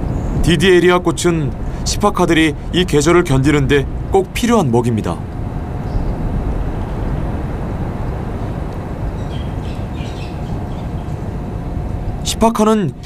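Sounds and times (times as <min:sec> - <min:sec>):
low rumble: 0:00.0 - 0:12.3
faint hum: 0:00.0 - 0:13.0.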